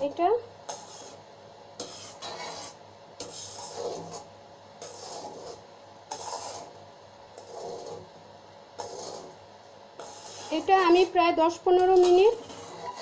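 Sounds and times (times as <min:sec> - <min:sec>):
spatula scraping metal pan: 0:00.7 - 0:01.2, 0:01.8 - 0:08.2, 0:08.8 - 0:09.4, 0:10.0 - 0:13.0.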